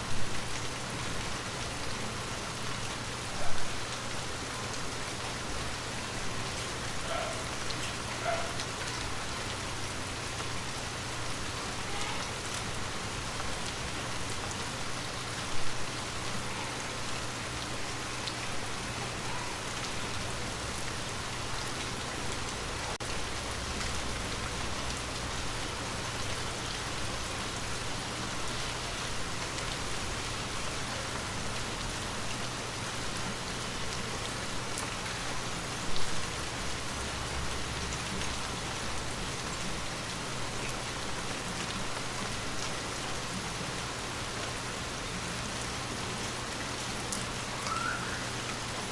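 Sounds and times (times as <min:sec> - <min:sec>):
rain pattering on a window: 0:00.0 - 0:48.9.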